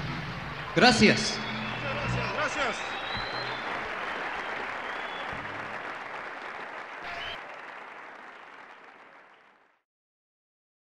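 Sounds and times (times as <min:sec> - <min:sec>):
audience applauding: 0:00.6 - 0:09.8.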